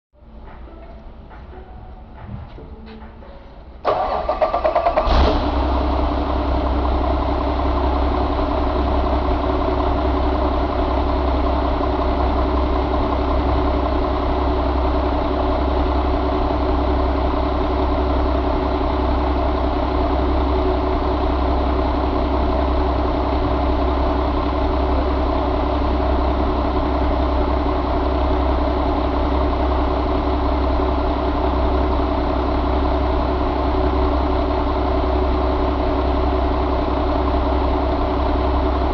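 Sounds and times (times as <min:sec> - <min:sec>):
diesel engine idling: 0:00.2 - 0:38.9.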